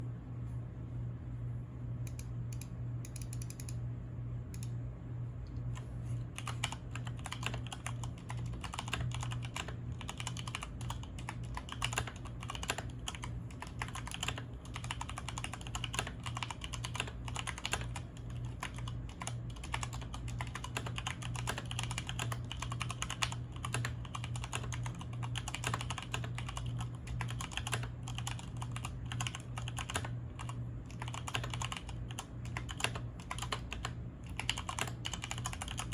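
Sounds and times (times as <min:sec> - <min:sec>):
steady low hum: 0:00.0 - 0:35.9
mechanical keyboard typing: 0:06.4 - 0:35.9.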